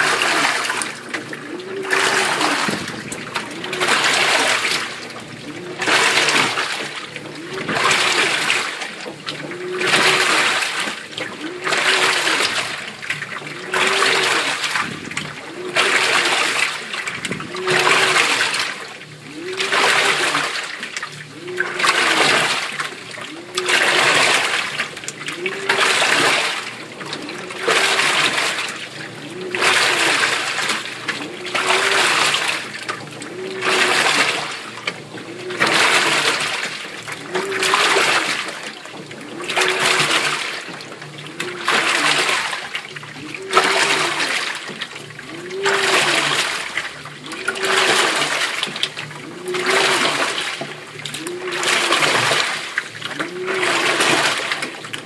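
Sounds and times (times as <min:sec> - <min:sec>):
washing machine motor whine: 0:00.0 - 0:55.0
water swishing in washing machine: 0:00.0 - 0:55.0.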